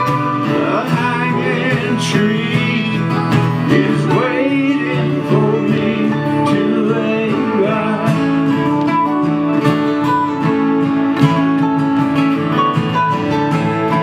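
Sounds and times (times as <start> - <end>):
mandolin: 0.0 - 14.0
strummed acoustic guitars: 0.0 - 14.0.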